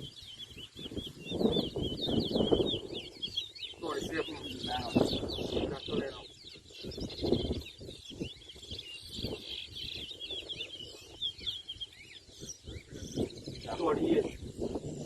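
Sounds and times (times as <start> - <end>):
finches chirping and whistling: 0.0 - 15.0.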